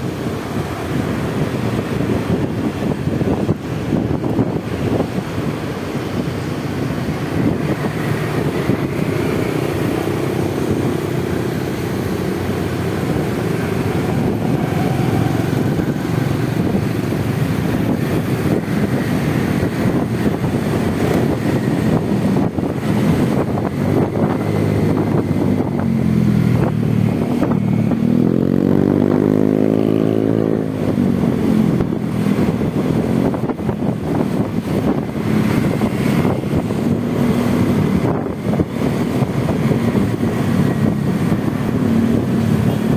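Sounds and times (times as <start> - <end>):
motorcycle engine: 0.0 - 42.9
wind rushing: 0.0 - 42.9.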